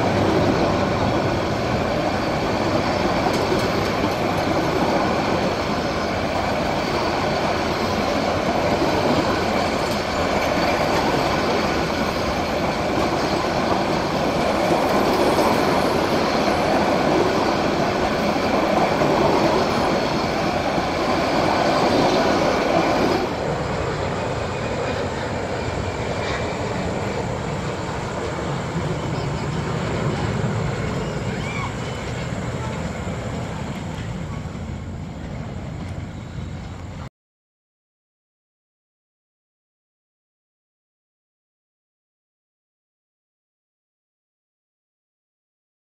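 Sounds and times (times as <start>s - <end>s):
train wheels rushing on rail: 0.0s - 37.1s.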